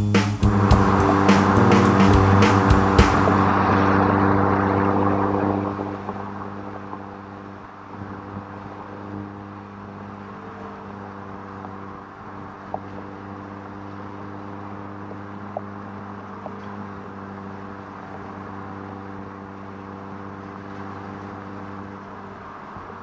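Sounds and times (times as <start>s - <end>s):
car engine hum: 0.0s - 23.0s
road and wind noise: 0.0s - 23.0s.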